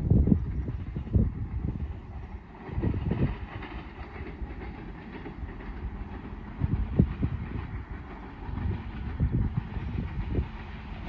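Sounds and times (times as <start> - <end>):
diesel locomotive engine running: 0.0 - 11.0
wheels clattering on rails: 0.0 - 11.0.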